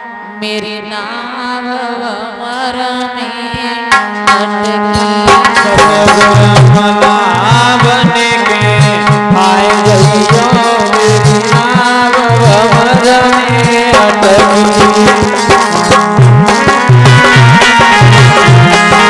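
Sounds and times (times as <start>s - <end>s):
harmonium playing: 0.0s - 19.0s.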